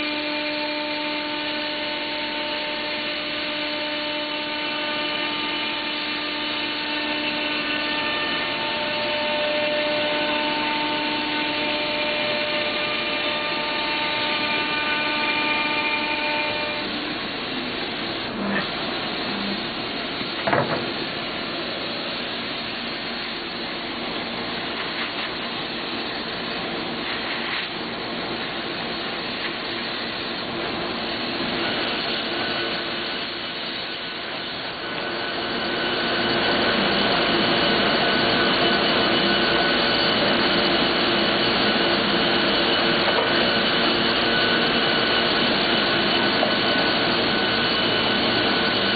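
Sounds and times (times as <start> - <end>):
router spindle whine: 0.0 - 48.9.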